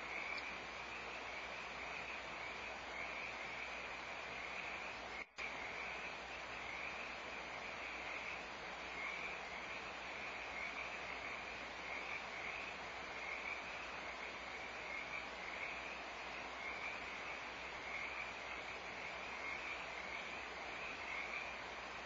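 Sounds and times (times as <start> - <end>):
frogs calling: 0.0 - 22.0
steady hiss: 0.0 - 22.0.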